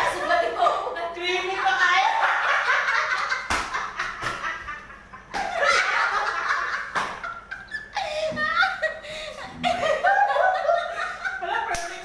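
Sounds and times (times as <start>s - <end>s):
people laughing: 1.9s - 12.0s.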